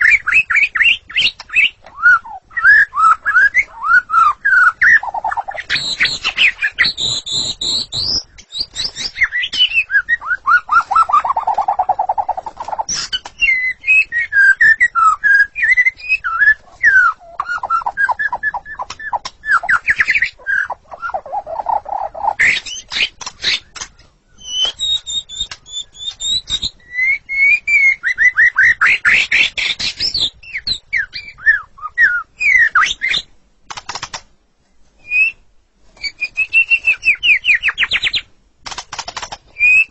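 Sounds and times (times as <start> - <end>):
bird singing varied song: 0.0 - 34.2, 36.0 - 39.9.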